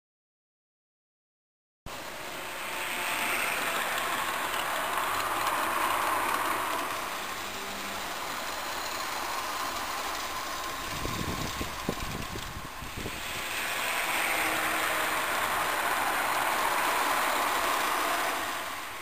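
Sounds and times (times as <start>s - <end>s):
model train motors whirring: 1.9s - 19.0s
wheels rolling on track: 1.9s - 19.0s.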